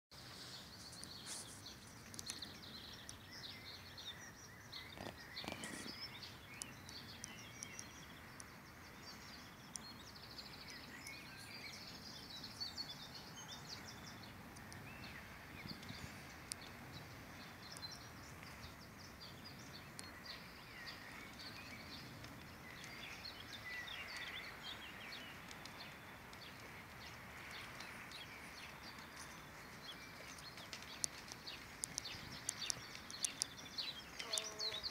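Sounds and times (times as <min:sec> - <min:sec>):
low outdoor background noise: 0:00.1 - 0:34.9
songbirds chirping: 0:00.1 - 0:34.9.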